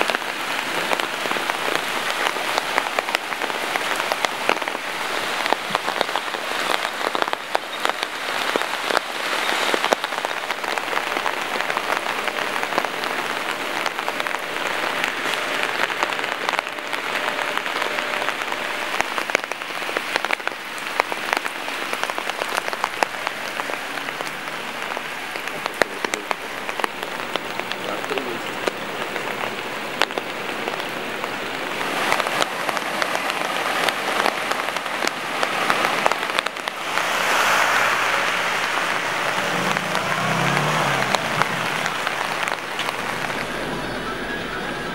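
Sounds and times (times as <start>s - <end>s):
raindrop impacts close by: 0.0s - 44.0s
steady rain falling: 0.0s - 44.9s.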